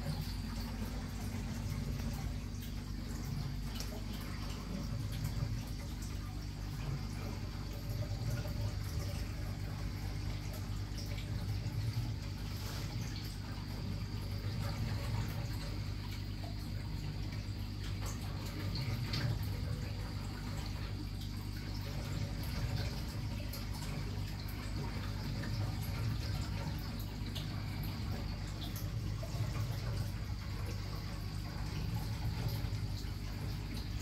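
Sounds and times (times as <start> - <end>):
water trickling and splashing: 0.0 - 34.0.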